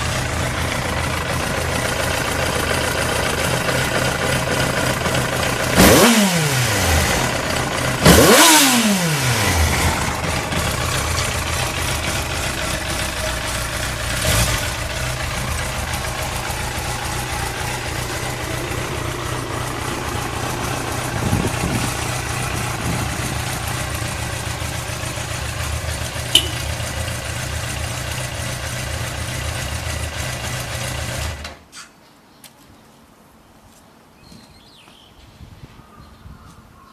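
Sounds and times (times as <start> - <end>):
motorcycle engine revving and idling: 0.0 - 31.5.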